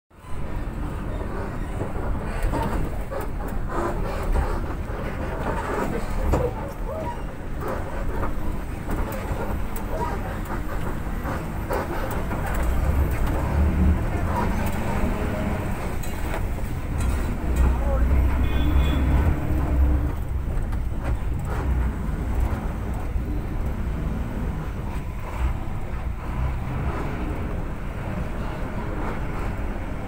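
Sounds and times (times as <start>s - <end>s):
bus engine and road rumble: 0.1s - 30.0s
bus body rattling and knocking: 0.2s - 30.0s.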